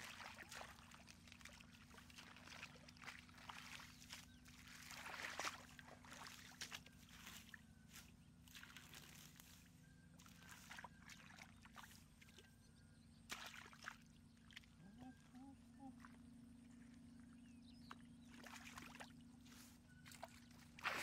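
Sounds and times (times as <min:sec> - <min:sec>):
sloshing in muddy water: 0:00.0 - 0:21.0.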